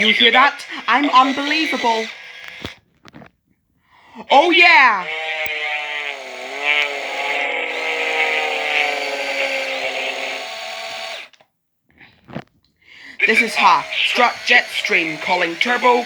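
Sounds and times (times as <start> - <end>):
toy plane motor drone: 0.0 - 2.8, 4.2 - 11.4, 13.0 - 16.0.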